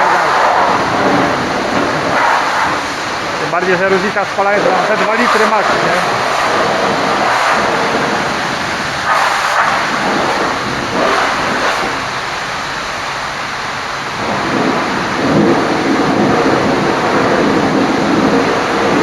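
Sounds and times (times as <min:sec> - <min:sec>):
water spraying onto truck: 0:00.0 - 0:19.0.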